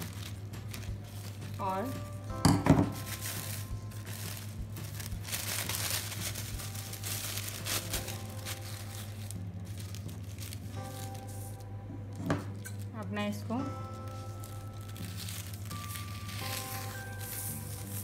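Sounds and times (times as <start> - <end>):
plastic bag crinkling: 0.0 - 2.1, 2.9 - 11.7, 13.7 - 18.0.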